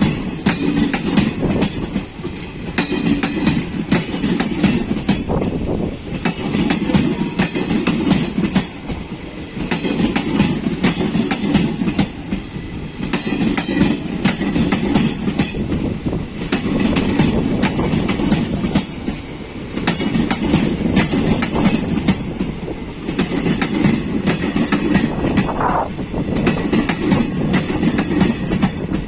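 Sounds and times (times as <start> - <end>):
train wheels rumbling: 0.0 - 29.0.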